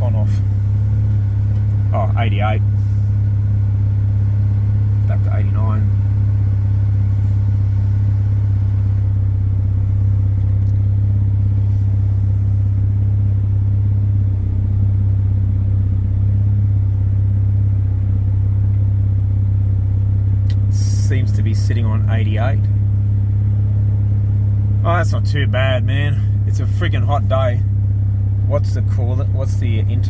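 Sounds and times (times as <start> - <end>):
rotary engine idling: 0.0 - 30.0.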